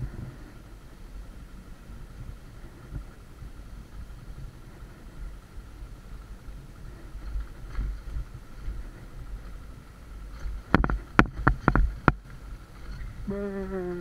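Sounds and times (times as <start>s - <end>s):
motorcycle engine running low: 0.0s - 14.0s.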